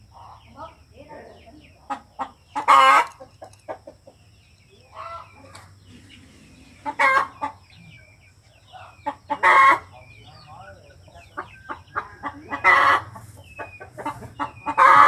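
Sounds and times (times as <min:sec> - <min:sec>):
bird calls: 0:00.0 - 0:15.0
bird chirps: 0:00.0 - 0:15.0.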